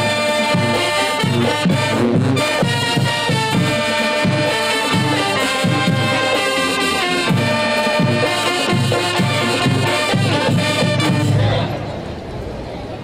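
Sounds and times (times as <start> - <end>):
brass marching band playing: 0.0 - 12.2.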